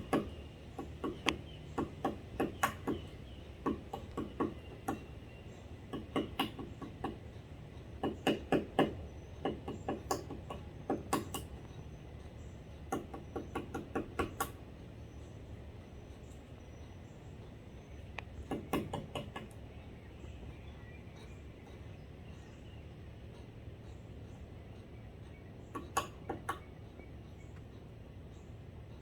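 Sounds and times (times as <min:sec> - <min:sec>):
woodpeckers pecking at wood: 0:00.0 - 0:29.0.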